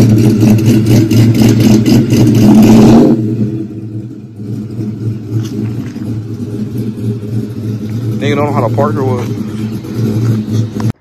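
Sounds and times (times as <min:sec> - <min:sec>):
pickup truck engine driving away: 0:00.0 - 0:11.0.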